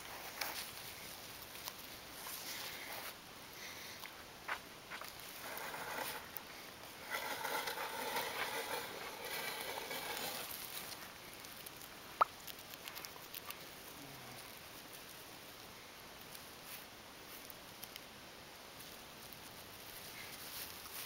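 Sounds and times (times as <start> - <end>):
soft rustling and crackling: 0.0 - 21.0.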